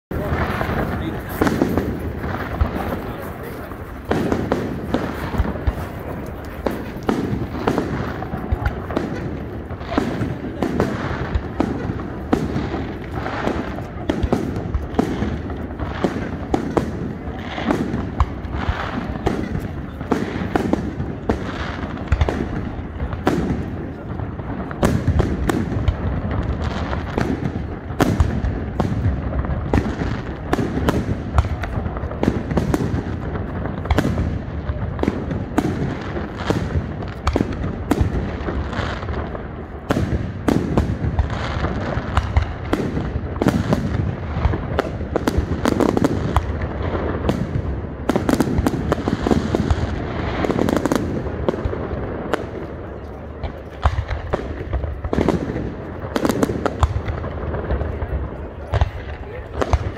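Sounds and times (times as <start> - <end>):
fireworks bursting: 0.1 - 59.9
fireworks crackling: 0.1 - 59.9.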